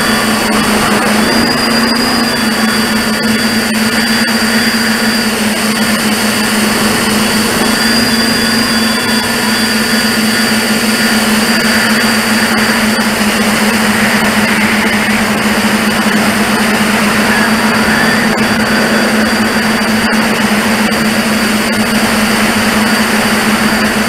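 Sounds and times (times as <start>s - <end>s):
drone motors whirring: 0.0s - 24.0s.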